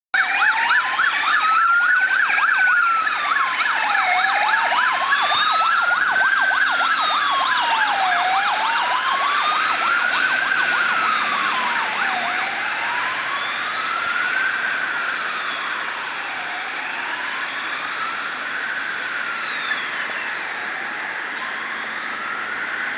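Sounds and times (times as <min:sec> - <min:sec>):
fast siren yelp: 0:00.2 - 0:22.9
fire truck siren wailing: 0:00.2 - 0:22.9.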